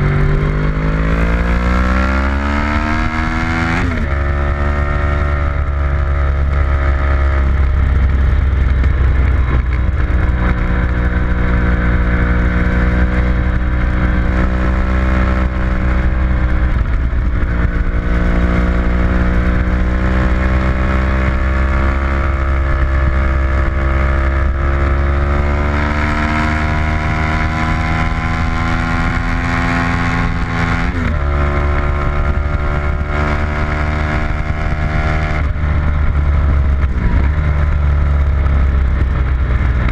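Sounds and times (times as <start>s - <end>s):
car engine revving at speed: 0.0s - 39.9s
wind rumble on microphone: 0.0s - 39.9s.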